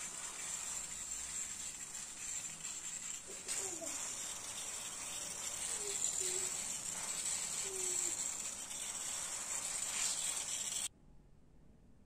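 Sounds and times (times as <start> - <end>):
hose spray hissing on plants: 0.0 - 10.9.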